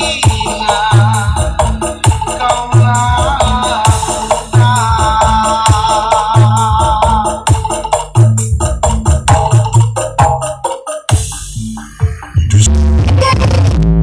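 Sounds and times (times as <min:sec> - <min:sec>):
loud music over sound system: 0:00.0 - 0:14.0.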